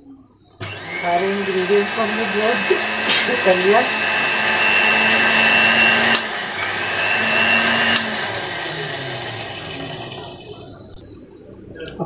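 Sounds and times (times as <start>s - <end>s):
blender motor whining: 0.6s - 10.8s.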